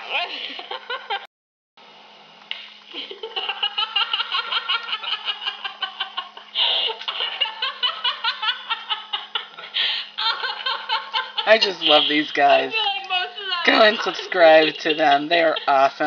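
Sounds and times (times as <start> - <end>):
man and woman laughing: 0.0 - 1.3, 2.9 - 16.0.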